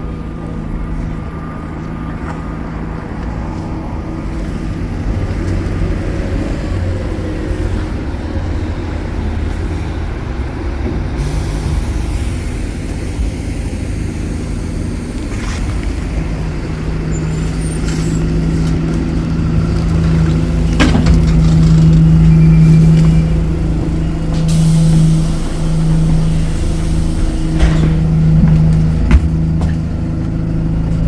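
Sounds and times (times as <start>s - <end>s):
bus engine rumble: 0.0s - 31.0s.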